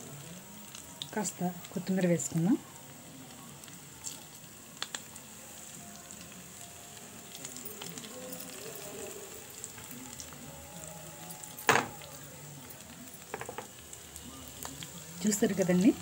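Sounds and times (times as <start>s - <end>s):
oil sizzling faintly in pan: 0.0s - 16.0s.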